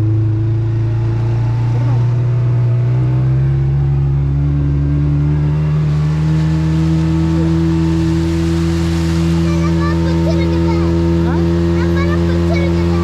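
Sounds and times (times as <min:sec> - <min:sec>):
speedboat engine running hard: 0:00.0 - 0:13.0.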